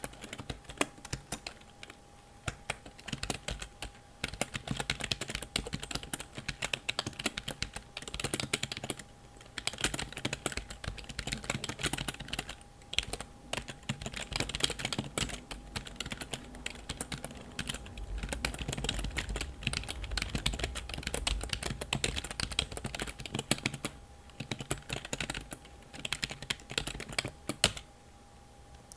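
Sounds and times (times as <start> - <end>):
keyboard typing: 0.0 - 27.9.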